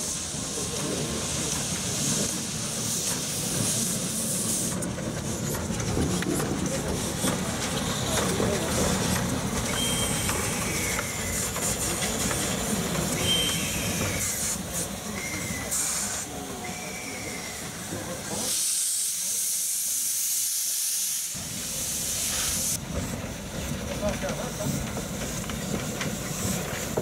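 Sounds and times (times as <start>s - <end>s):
steam locomotive hissing steam: 0.0s - 27.0s.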